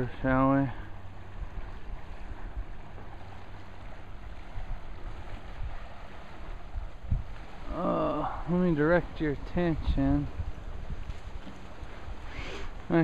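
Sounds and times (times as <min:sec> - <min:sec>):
small waves lapping shore: 0:00.0 - 0:13.0
wind buffeting microphone: 0:00.0 - 0:13.0.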